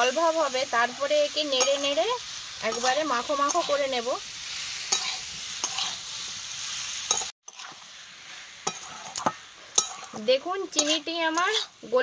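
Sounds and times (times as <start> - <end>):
frying sizzle in a pan: 0.0 - 12.0
metal spatula scraping a pan: 1.5 - 2.0, 2.6 - 12.0.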